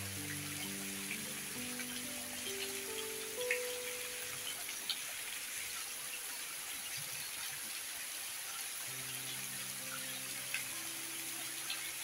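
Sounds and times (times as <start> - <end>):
heavy rain on wet ground: 0.0 - 12.0
soft background music tones: 0.0 - 12.0.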